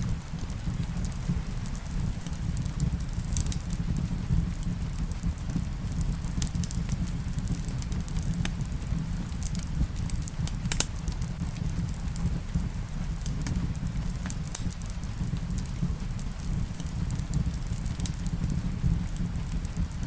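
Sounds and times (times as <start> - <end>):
rain falling: 0.0 - 20.0
wood fire crackling: 0.0 - 20.0.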